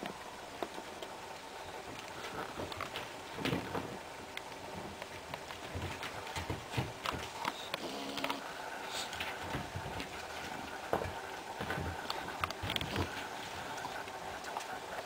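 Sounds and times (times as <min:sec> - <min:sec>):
puppies scuffling: 0:00.0 - 0:15.0
steady outdoor hiss: 0:00.0 - 0:15.0.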